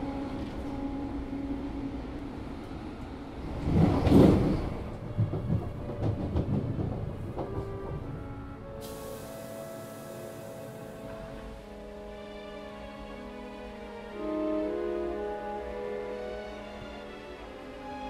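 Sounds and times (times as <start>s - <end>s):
soft music: 0.0s - 3.7s, 4.9s - 18.0s
train carriage rumble: 0.0s - 18.0s.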